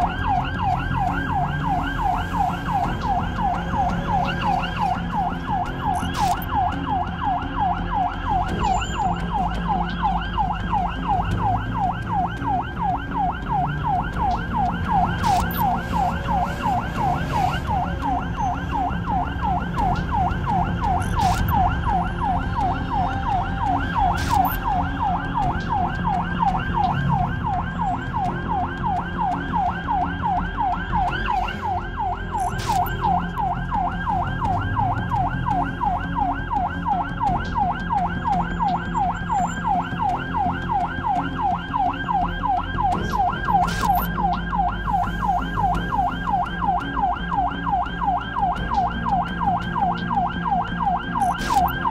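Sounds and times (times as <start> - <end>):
engine and road rumble: 0.0 - 51.9
siren yelping: 0.0 - 51.9.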